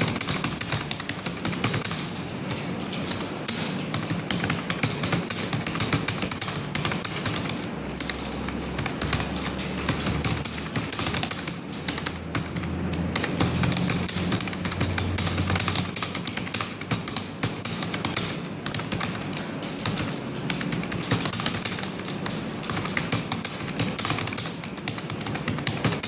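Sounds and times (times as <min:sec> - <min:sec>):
background music with low notes: 0:00.0 - 0:26.0
fast typing on keyboard: 0:00.0 - 0:26.0.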